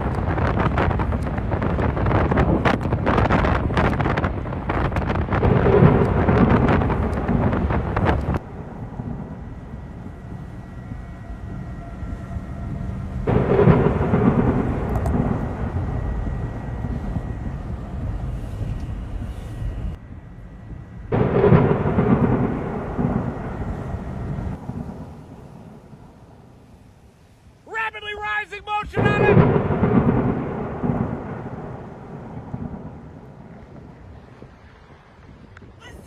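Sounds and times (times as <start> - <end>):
thunder rumbling: 0.0 - 27.6, 28.6 - 36.0
rushing wind: 0.0 - 36.0.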